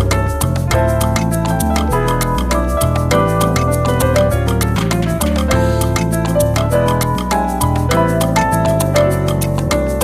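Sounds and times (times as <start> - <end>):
upbeat salsa music: 0.0 - 10.0.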